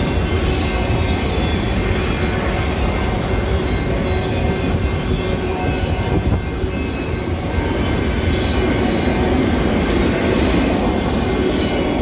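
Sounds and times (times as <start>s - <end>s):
steel wheels rolling on rails: 0.0s - 12.0s.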